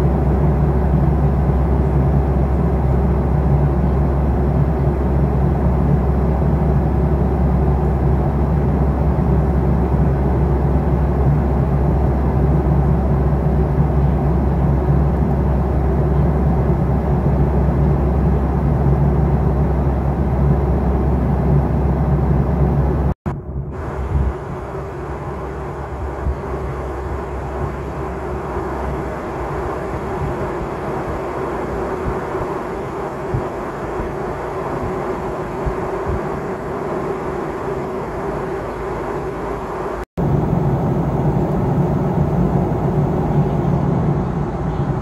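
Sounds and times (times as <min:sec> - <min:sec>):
vehicle rumble from inside: 0:00.0 - 0:45.0.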